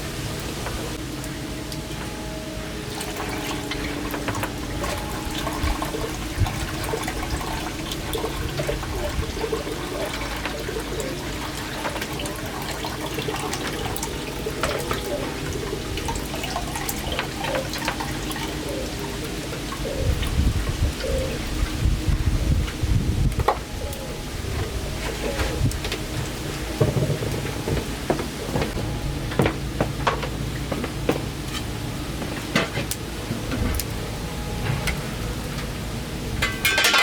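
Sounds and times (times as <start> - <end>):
water running and splashing: 0.0 - 37.0.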